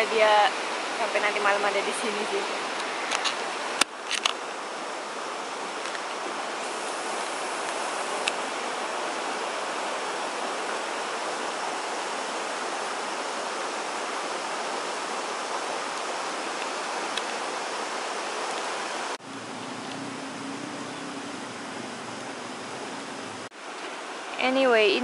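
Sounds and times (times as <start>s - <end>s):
steady rushing noise: 0.1s - 24.9s.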